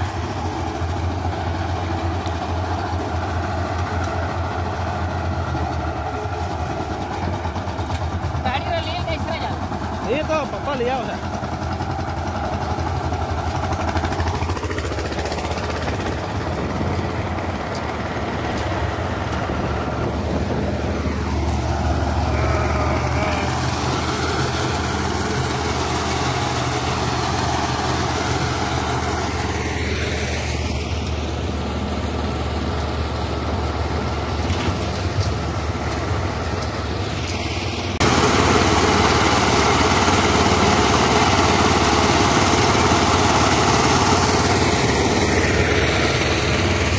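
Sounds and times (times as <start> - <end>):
power tiller engine running: 0.0 - 46.9.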